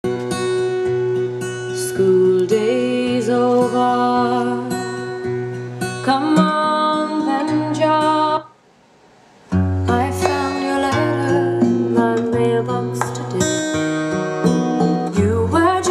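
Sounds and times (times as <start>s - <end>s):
acoustic guitar strumming: 0.0s - 8.5s, 9.5s - 15.9s.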